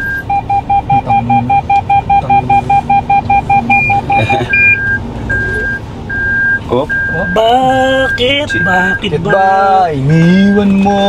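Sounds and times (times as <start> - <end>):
fast electronic warning beeps: 0.0 - 9.1, 10.3 - 11.0.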